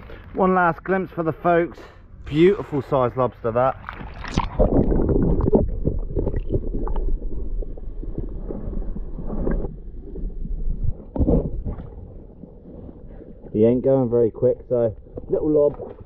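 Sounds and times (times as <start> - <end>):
muffled underwater rumble: 0.0 - 16.0.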